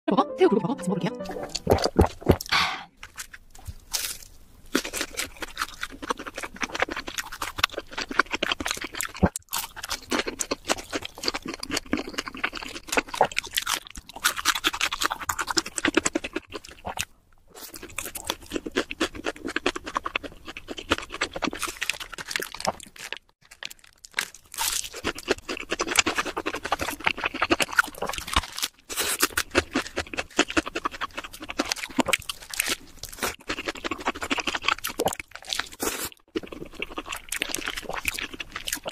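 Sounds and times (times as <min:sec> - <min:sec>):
crunching crispy food: 0:01.8 - 0:38.9.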